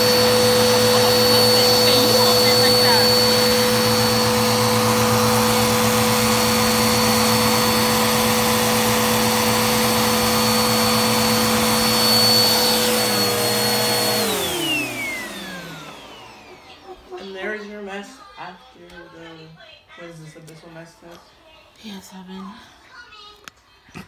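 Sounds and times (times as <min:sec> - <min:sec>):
vacuum cleaner running: 0:00.0 - 0:19.4.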